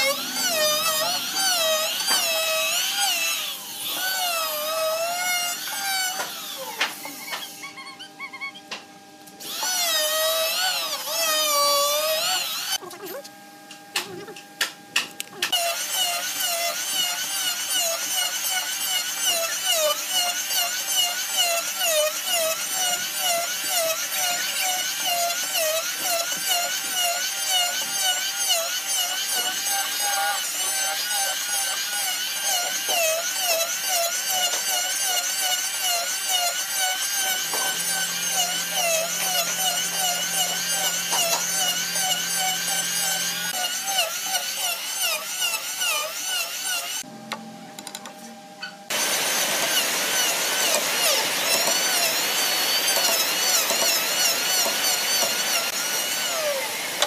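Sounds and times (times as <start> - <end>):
electric planer whine: 0.0 - 12.8, 15.5 - 57.0.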